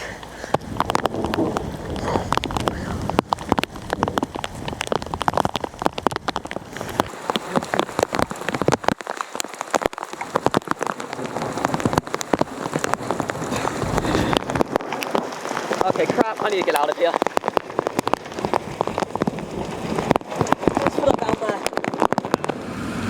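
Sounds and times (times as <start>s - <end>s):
heavy rain: 0.0s - 23.0s
raindrops hitting microphone: 0.0s - 23.0s.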